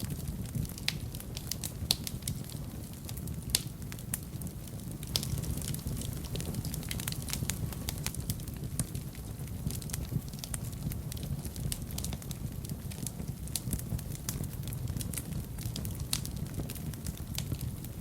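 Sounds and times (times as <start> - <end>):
fire crackling and popping: 0.0 - 18.0
fire rumbling in a fireplace: 0.0 - 18.0.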